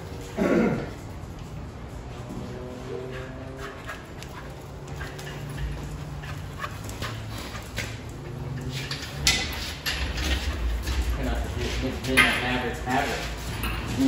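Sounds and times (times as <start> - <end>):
shuffling steps: 0.0 - 14.0.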